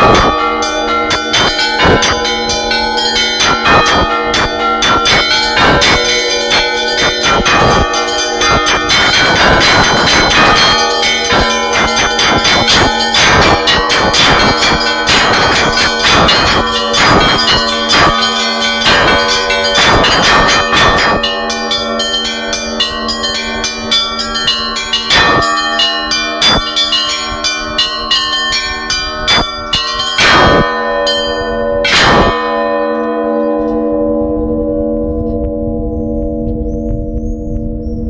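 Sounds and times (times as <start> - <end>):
large church bell: 0.0 - 38.0
medium church bells: 0.0 - 38.0
small church bells ringing: 0.0 - 38.0.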